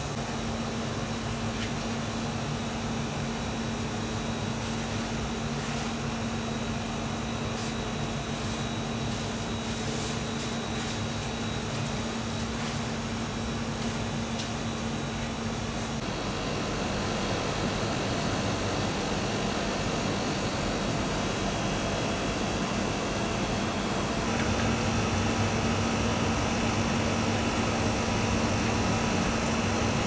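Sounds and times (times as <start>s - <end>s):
machinery humming: 2.8s - 30.0s.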